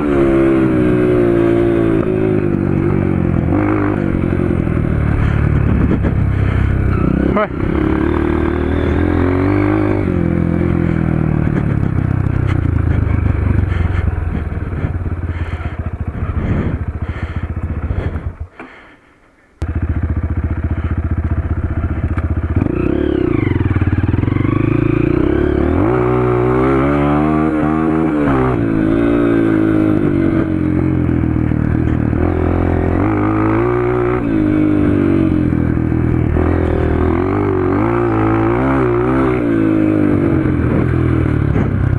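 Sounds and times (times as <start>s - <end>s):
dirt bike engine revving: 0.0s - 18.9s, 19.6s - 41.9s.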